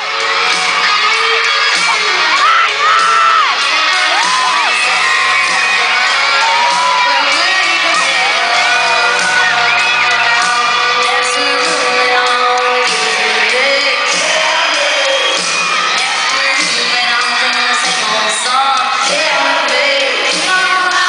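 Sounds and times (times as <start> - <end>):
audience screaming and whooping: 0.0 - 21.0
live concert music with vocals: 0.0 - 21.0.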